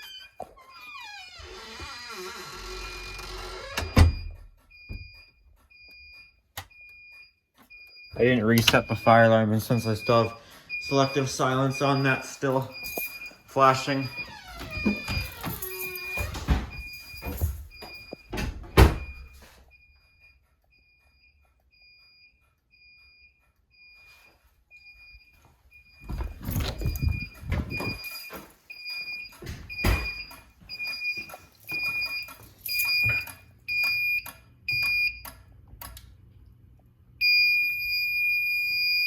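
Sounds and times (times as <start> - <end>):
fire alarm beeping: 2.8 - 35.4, 37.2 - 39.0.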